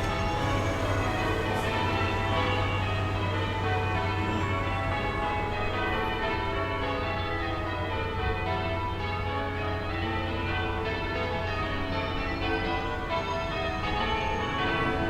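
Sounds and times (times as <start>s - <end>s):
distant church bells ringing: 0.0s - 15.0s
low town rumble: 0.0s - 15.0s.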